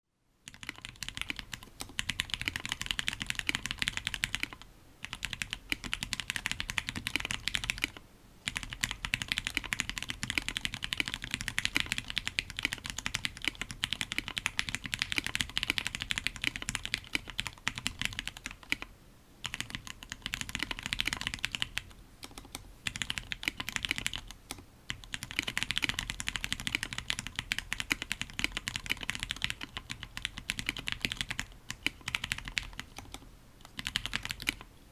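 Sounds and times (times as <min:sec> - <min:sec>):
fast mechanical keyboard typing: 0:00.5 - 0:34.7.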